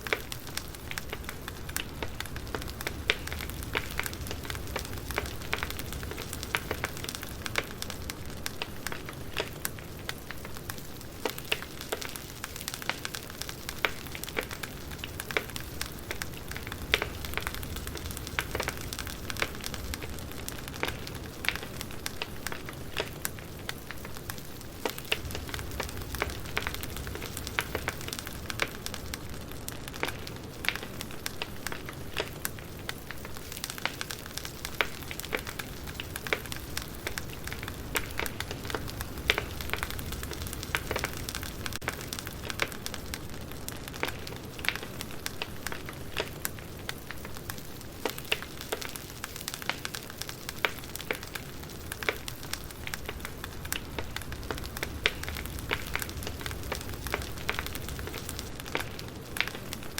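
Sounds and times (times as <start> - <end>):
firewood crackling: 0.0 - 59.9.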